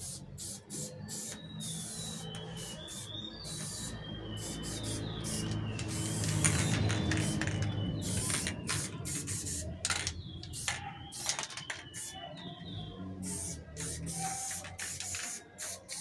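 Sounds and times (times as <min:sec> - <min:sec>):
spray paint can hissing: 0:00.0 - 0:12.2, 0:13.2 - 0:16.0.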